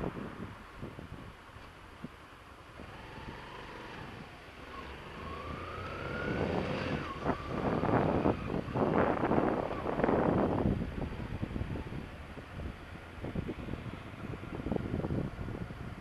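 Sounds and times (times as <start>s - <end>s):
wind noise on helmet: 0.0s - 2.2s, 2.8s - 16.0s
motorcycle engine accelerating: 2.8s - 16.0s.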